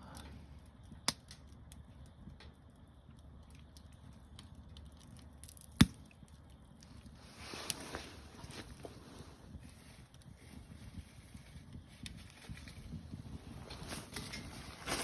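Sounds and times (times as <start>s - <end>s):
burning wood popping: 0.0s - 15.0s
campfire crackling: 0.0s - 15.0s.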